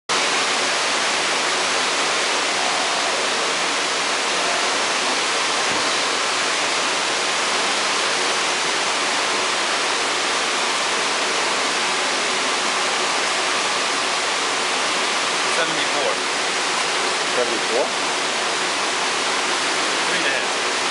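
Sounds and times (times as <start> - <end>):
running water rushing: 0.1 - 20.9.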